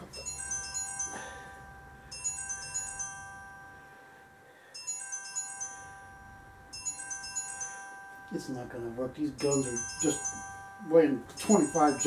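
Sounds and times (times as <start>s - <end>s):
phone ringtone chiming: 0.0s - 12.0s.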